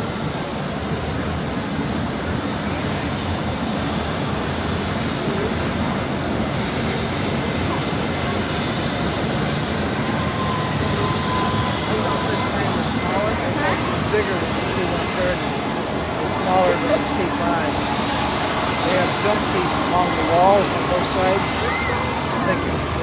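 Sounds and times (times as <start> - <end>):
aircraft engine noise: 0.0 - 23.0
high engine whine: 0.0 - 23.0.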